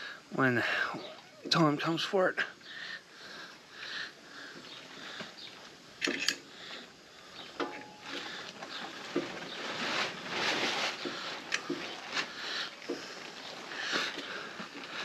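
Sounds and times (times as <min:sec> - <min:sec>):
breathy hissing puffs: 0:00.0 - 0:01.4, 0:02.4 - 0:15.0.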